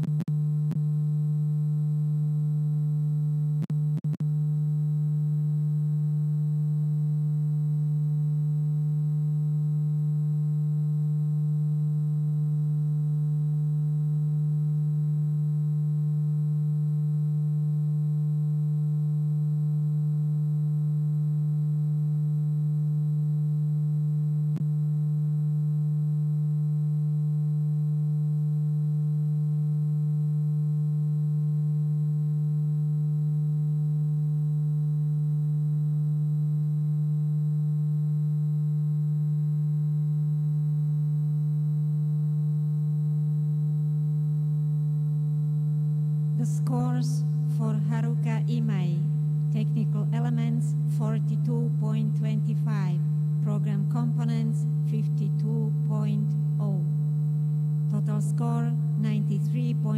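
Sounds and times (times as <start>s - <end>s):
low electrical hum: 5.1s - 59.9s.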